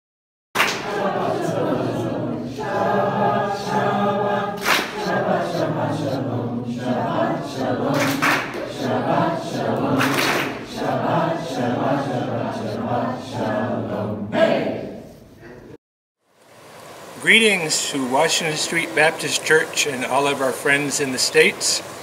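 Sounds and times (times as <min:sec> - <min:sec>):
choir singing: 0:00.6 - 0:15.1, 0:17.2 - 0:22.0.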